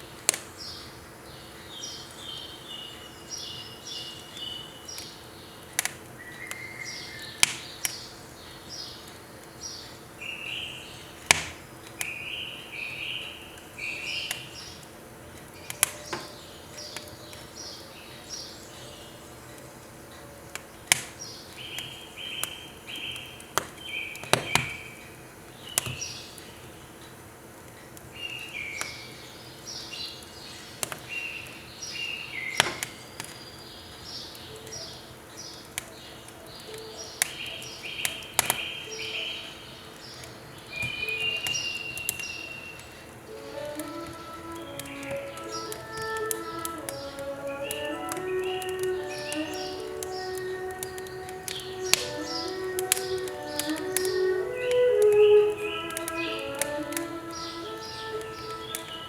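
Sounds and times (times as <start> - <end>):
songbird singing: 0.0 - 27.2, 28.1 - 59.0
firewood crackling in a stove: 0.0 - 59.0.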